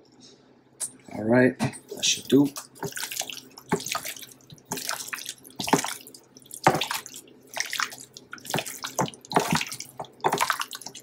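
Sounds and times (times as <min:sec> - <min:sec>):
raw chicken squelching in a bowl: 0:01.8 - 0:11.0.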